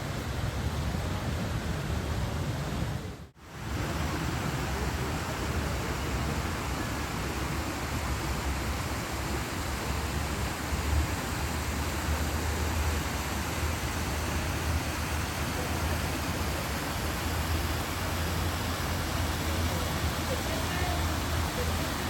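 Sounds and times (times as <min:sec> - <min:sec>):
water pouring down waterfall: 0:00.0 - 0:22.0.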